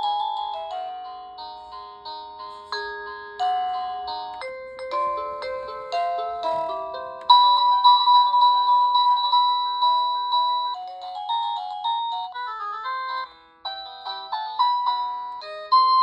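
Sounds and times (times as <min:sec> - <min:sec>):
electronic doorbell chime tunes: 0:00.0 - 0:16.0.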